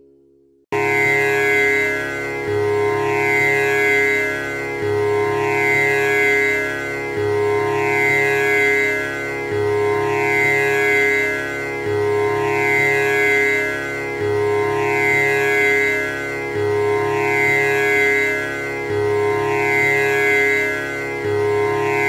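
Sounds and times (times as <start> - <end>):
tanpura drone: 0.8 - 22.0.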